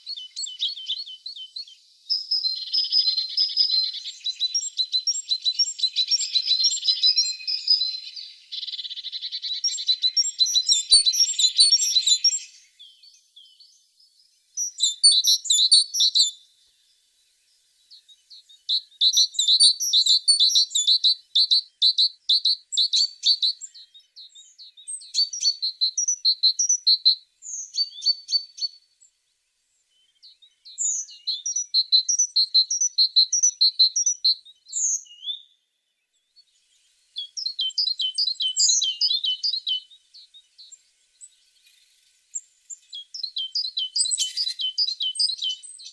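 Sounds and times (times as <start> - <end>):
bird singing trilled phrases: 0.0 - 45.9.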